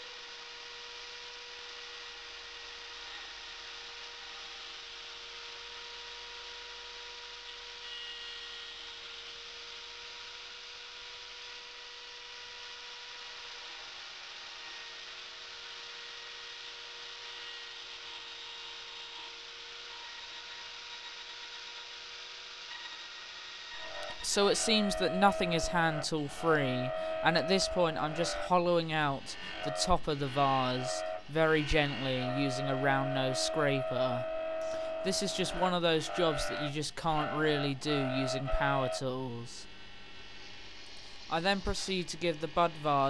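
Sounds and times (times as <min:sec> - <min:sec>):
wood router whining: 0:00.0 - 0:43.0
lathe running: 0:00.1 - 0:43.0.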